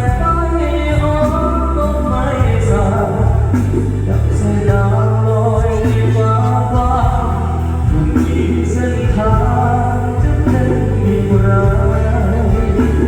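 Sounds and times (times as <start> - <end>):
heavy bass line: 0.0 - 13.0
live band playing: 0.0 - 13.0
man singing: 0.0 - 13.0.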